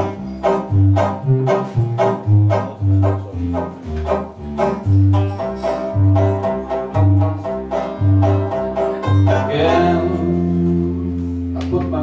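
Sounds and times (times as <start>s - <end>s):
banjo picking: 0.0s - 12.0s.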